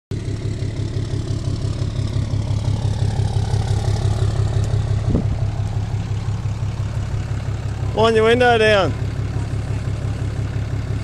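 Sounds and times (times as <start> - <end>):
truck engine idling: 0.1 - 11.0.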